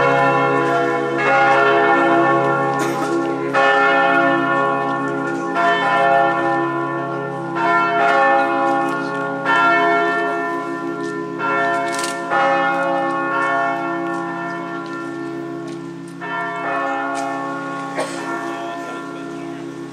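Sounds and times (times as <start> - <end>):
church bells ringing: 0.0 - 19.9.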